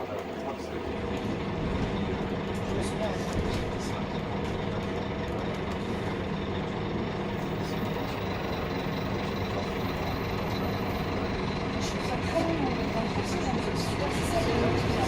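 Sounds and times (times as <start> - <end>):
bus engine interior noise: 0.0 - 15.0.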